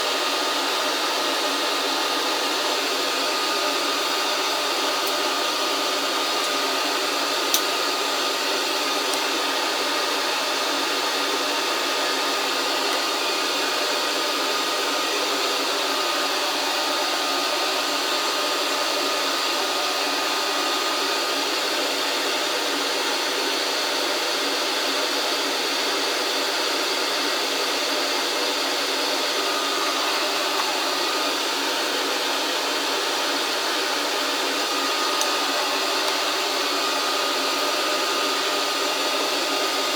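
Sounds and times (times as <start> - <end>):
electric blower running: 0.0 - 23.5, 26.8 - 39.9.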